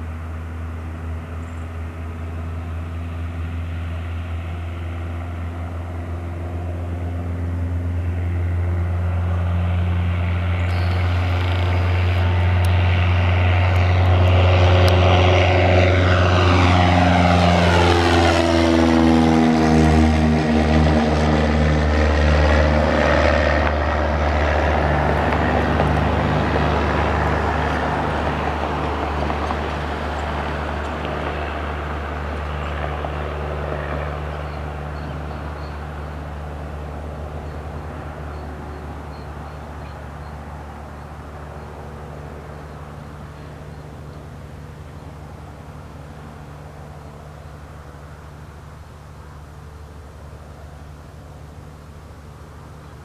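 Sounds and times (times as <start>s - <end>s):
propeller plane engine: 0.0s - 53.0s.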